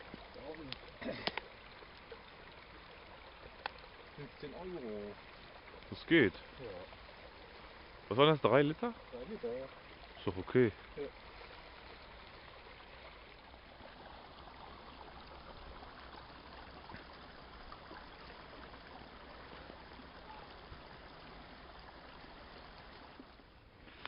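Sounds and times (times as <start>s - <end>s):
creek burbling: 0.0s - 24.0s.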